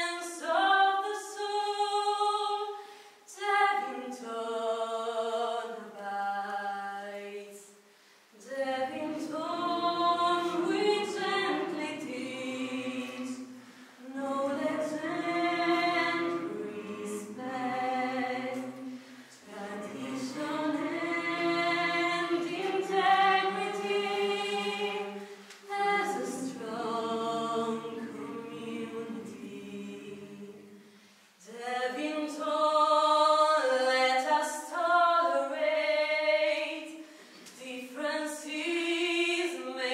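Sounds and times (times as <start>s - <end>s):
choir singing a hymn: 0.0s - 7.7s, 8.4s - 39.9s.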